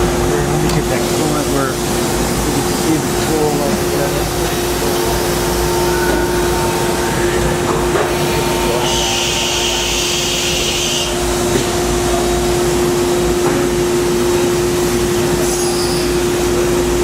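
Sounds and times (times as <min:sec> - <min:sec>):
machine mechanical whine: 0:00.0 - 0:17.0
coolant hissing and splashing: 0:00.1 - 0:17.0.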